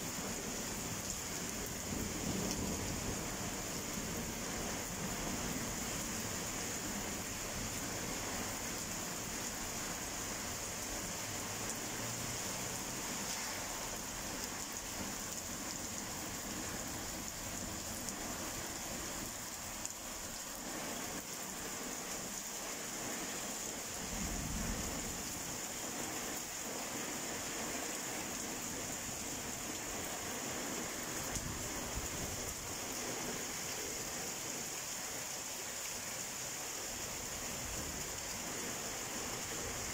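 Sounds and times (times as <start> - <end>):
rain splashing on wet pavement: 0.0 - 39.9.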